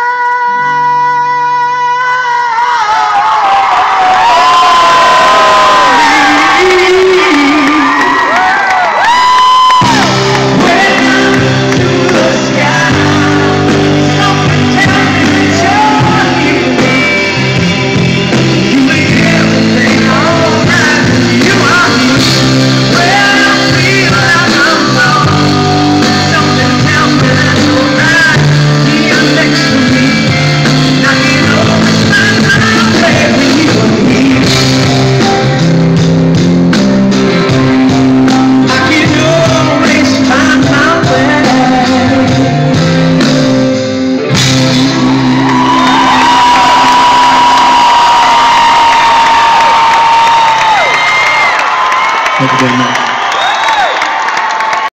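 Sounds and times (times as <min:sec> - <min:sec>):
person singing: 0:00.0 - 0:36.0, 0:37.1 - 0:49.1, 0:52.4 - 0:53.0
live rock band playing ballad: 0:00.0 - 0:53.3.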